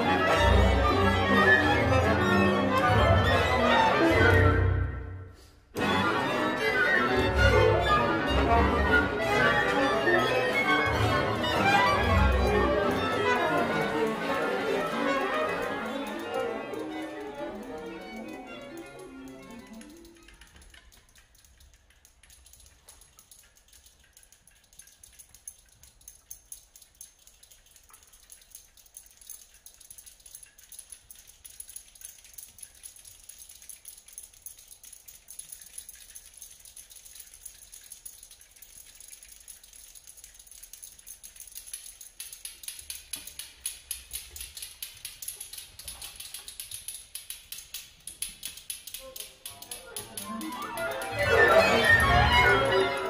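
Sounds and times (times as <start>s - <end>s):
ensemble music of soft clicks: 5.7s - 53.0s.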